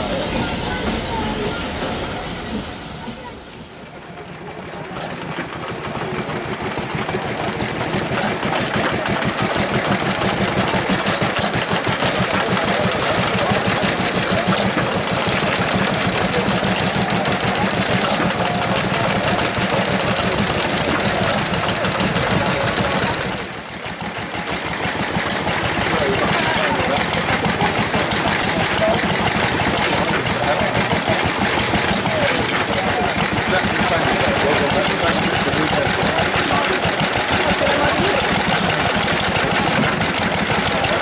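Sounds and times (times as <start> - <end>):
stationary engines knocking: 0.0 - 41.0.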